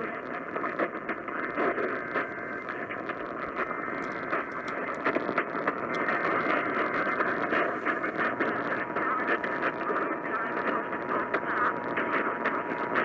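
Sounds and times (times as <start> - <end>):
faint steady tones: 0.0 - 13.0
radio static hiss: 0.0 - 13.0
static crackles: 0.0 - 13.0.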